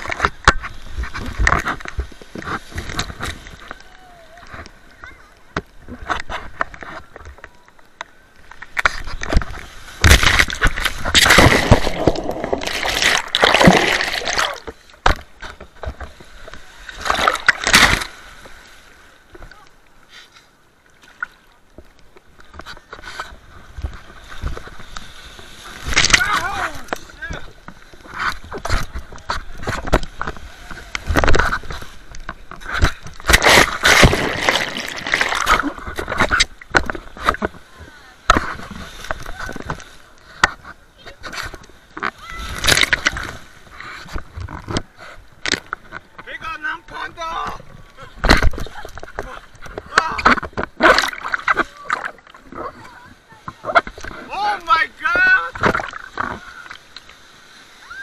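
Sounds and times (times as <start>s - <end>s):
surf washing: 0.0s - 58.0s
seawater splashing and sloshing: 8.4s - 20.3s, 20.9s - 58.0s.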